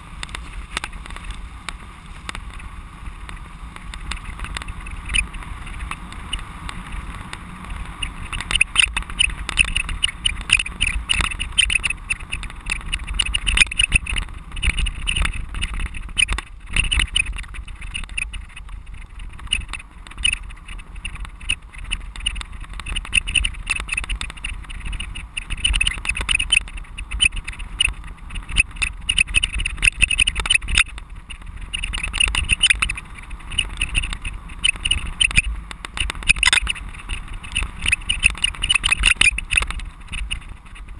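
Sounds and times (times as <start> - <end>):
camera rattling and scraping: 0.0 - 40.9
tyres rumbling on rough ground: 0.0 - 40.9.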